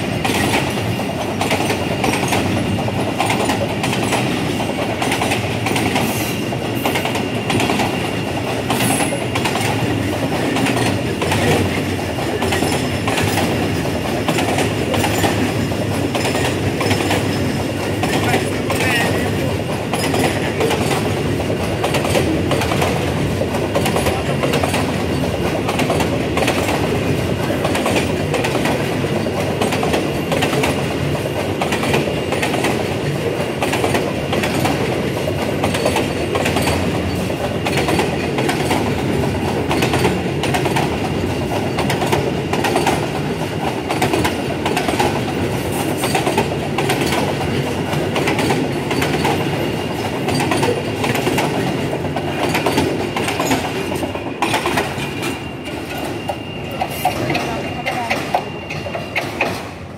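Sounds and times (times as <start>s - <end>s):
clickety-clack of rail joints: 0.0s - 59.9s
freight train wheels rumbling on rails: 0.0s - 59.9s.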